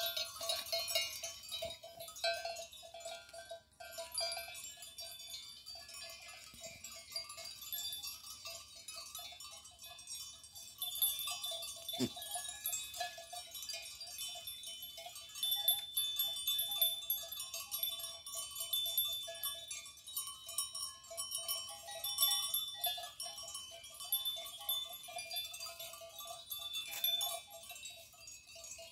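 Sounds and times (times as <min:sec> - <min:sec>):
livestock bells clinking: 0:00.0 - 0:28.9.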